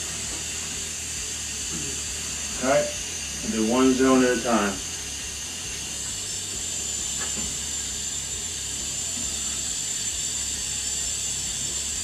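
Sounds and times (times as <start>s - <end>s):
water hissing through pipes: 0.0s - 12.0s.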